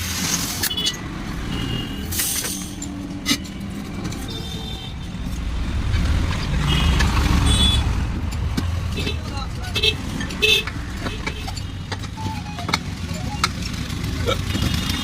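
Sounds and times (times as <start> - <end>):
vehicle engine rumbling: 0.1 - 15.0.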